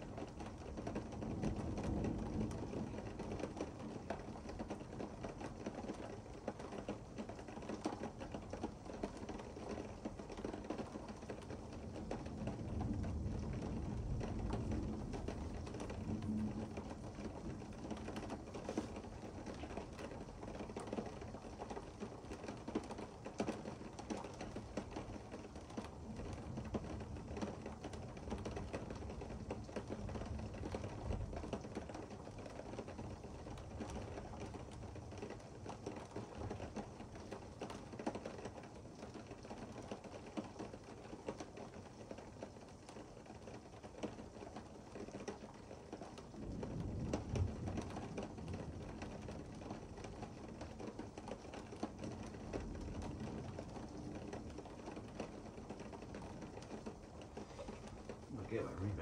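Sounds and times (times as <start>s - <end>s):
rain pattering on a window: 0.0s - 59.0s.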